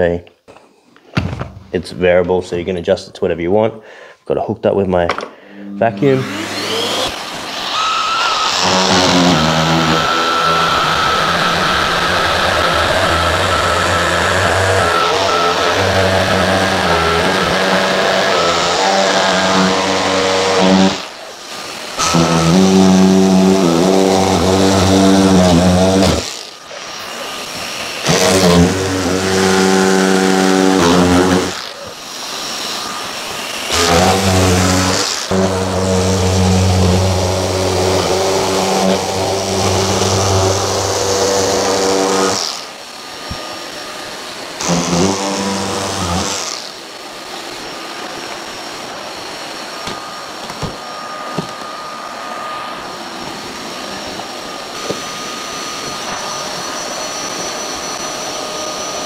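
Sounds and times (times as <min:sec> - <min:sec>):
dust extraction vacuum running: 0:05.4 - 0:59.0
drywall cutter cutting: 0:05.9 - 0:59.0.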